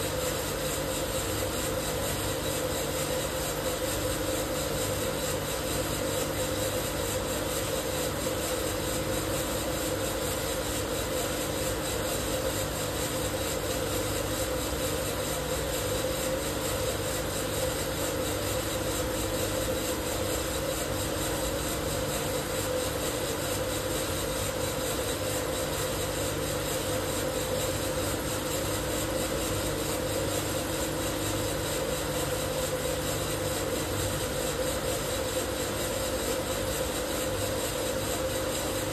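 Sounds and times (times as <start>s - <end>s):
coffee roaster machine whir: 0.0s - 38.9s.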